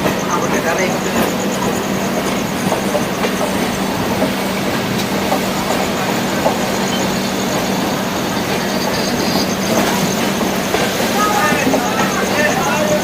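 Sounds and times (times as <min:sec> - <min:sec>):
train rumbling and rattling: 0:00.0 - 0:13.0.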